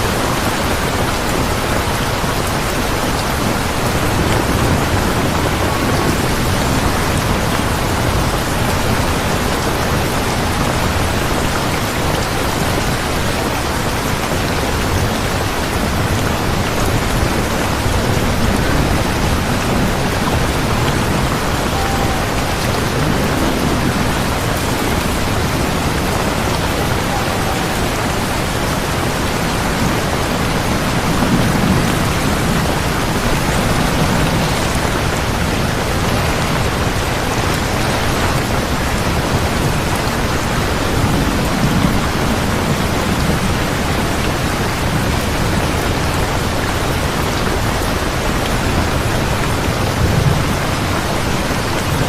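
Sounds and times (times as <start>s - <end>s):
heavy rain hissing: 0.0s - 52.0s.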